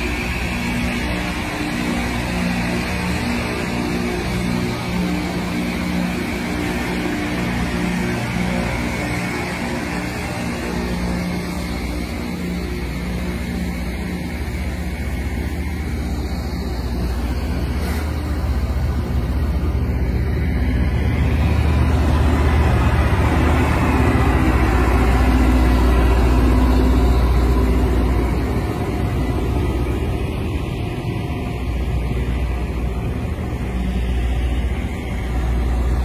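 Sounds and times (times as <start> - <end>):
rail grinder train grinding: 0.0 - 36.0.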